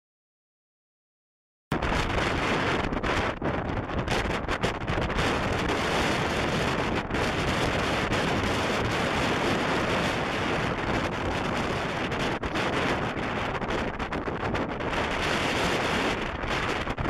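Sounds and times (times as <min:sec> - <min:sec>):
strong wind buffeting microphone: 0:01.7 - 0:17.0.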